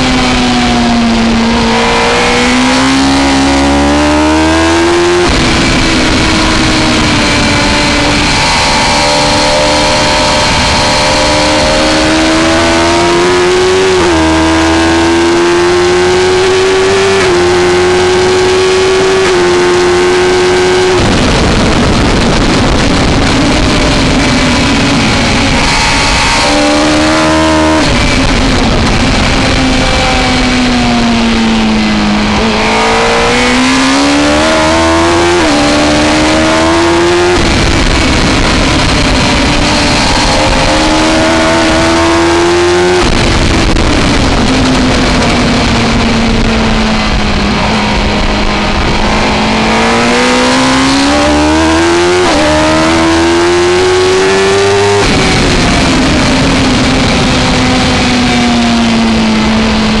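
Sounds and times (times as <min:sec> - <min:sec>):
motorcycle engine revving: 0:00.0 - 1:00.0
rushing wind noise: 0:00.0 - 1:00.0.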